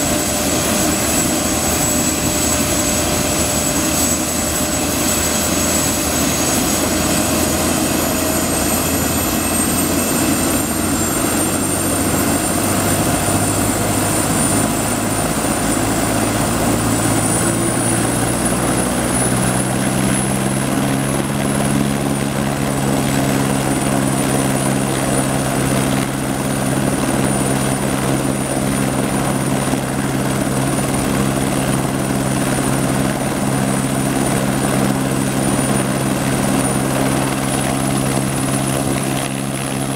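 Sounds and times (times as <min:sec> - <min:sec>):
helicopter turbine whine: 0:00.0 - 0:39.9
low rotor drone: 0:00.0 - 0:39.9.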